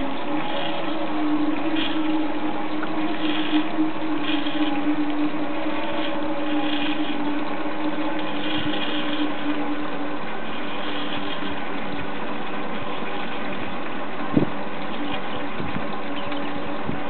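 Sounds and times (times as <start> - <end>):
cable car machinery humming: 0.0 - 17.0.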